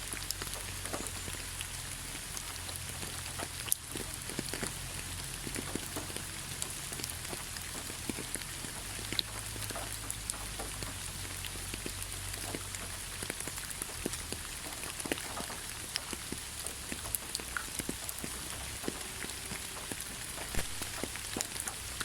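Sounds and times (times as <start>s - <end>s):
heavy rain on hard surface: 0.0s - 22.0s.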